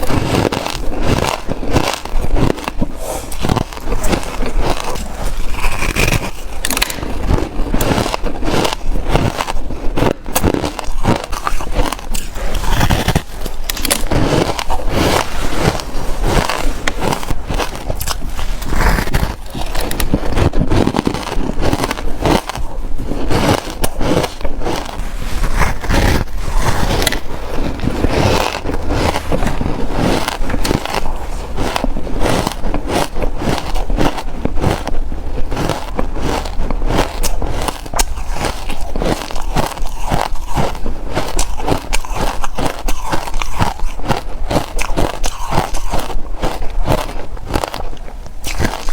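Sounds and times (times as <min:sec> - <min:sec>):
chewing crunchy ice: 0:00.0 - 0:48.9.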